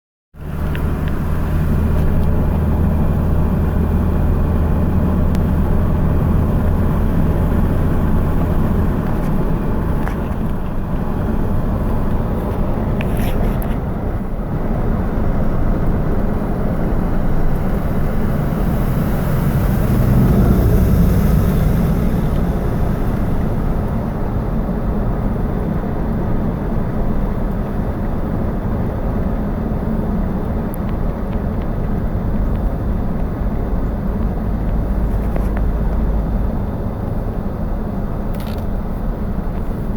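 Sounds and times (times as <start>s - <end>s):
low engine drone: 0.4s - 39.9s
vehicle road noise: 0.4s - 39.9s.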